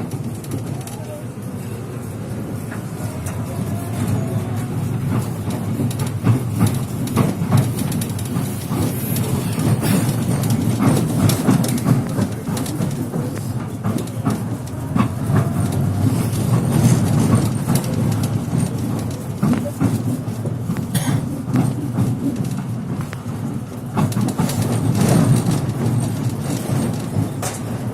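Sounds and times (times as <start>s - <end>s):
low rumble of running tram: 0.0s - 27.9s
tram wheels knocking over rails: 2.3s - 27.9s.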